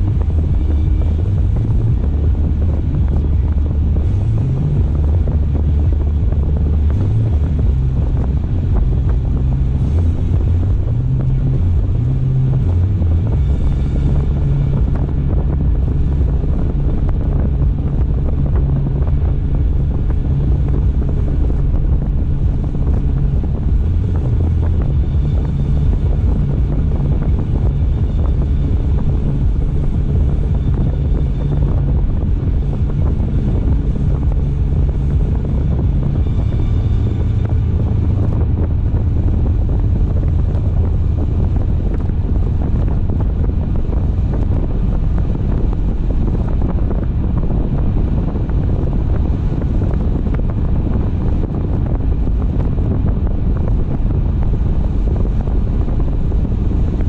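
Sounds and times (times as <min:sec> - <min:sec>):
car engine and tyre rumble: 0:00.0 - 0:57.0
wind noise on microphone: 0:00.0 - 0:57.0.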